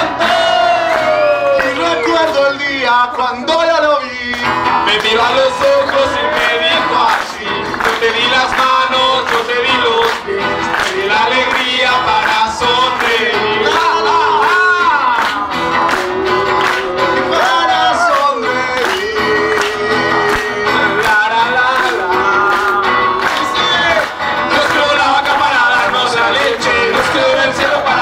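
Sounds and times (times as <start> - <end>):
men singing: 0.0 - 28.0
strummed acoustic guitars: 0.0 - 28.0.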